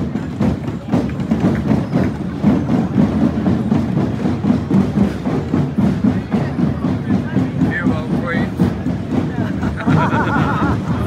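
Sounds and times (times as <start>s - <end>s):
parade drums playing: 0.0s - 11.0s.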